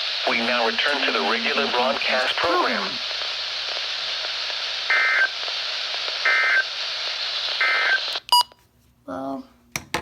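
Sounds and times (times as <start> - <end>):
radio static hiss: 0.0 - 8.3.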